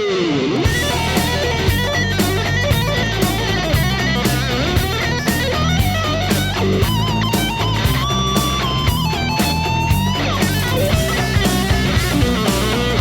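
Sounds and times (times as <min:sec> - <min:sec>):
drums: 0:00.0 - 0:13.0
electric guitar: 0:00.0 - 0:13.0
bass: 0:00.6 - 0:13.0.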